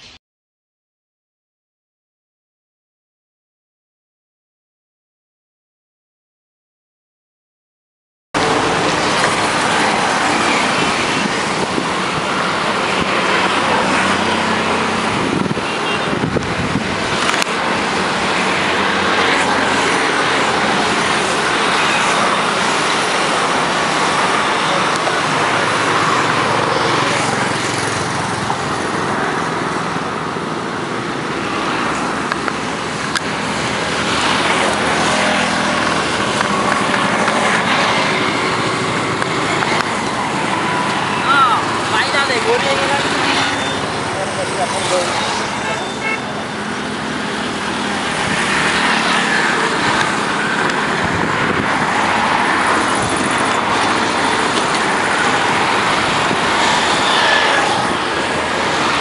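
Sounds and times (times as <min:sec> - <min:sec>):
passing cars and buses: 0:08.4 - 0:59.0.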